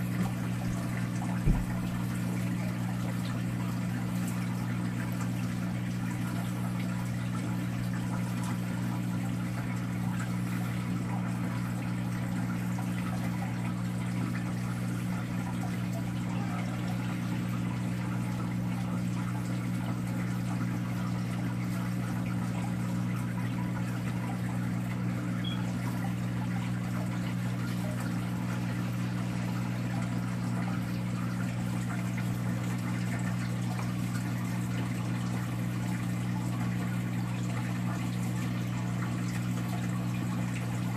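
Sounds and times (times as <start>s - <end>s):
pump electric hum: 0.0s - 40.9s
water moving through tank: 0.0s - 40.9s.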